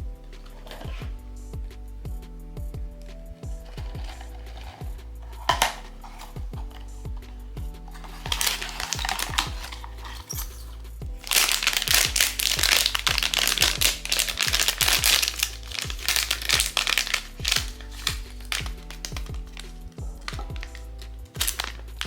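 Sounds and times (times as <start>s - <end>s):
background music: 0.0s - 22.0s
plastic packaging crinkling: 0.4s - 1.0s, 3.6s - 22.0s.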